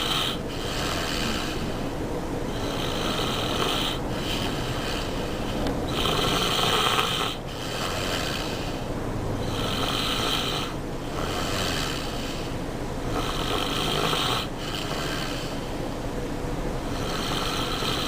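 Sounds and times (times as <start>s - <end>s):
person snoring: 0.0s - 1.8s, 2.5s - 8.8s, 9.4s - 12.5s, 13.1s - 15.6s, 16.9s - 18.0s.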